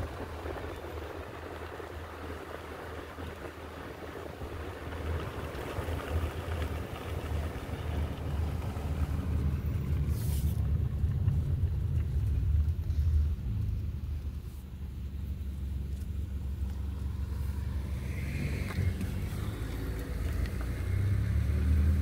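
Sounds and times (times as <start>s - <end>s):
car engine and road rumble: 0.0s - 22.0s
wind and tyre hiss: 0.0s - 22.0s.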